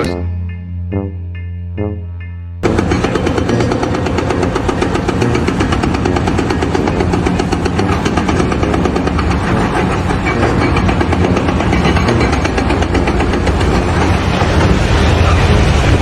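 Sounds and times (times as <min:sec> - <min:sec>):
loud engine running with pulsing beat: 0:02.6 - 0:16.0.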